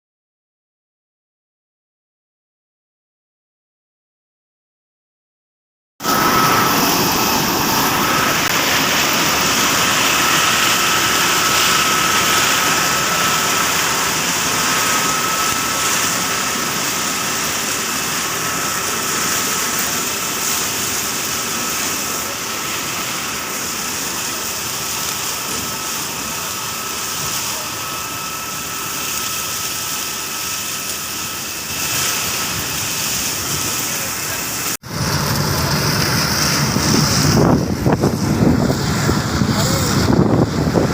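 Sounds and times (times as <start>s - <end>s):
harvester machine drone: 6.0s - 40.9s
thin high whine: 6.0s - 40.9s.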